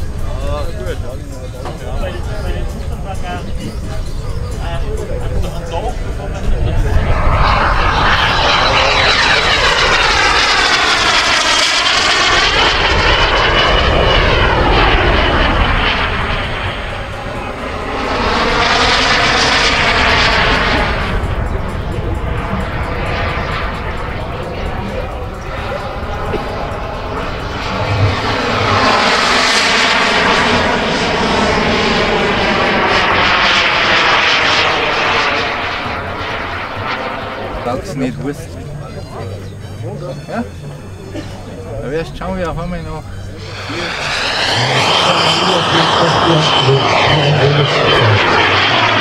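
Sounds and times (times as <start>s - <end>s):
model jet turbine whine: 0.0s - 49.0s.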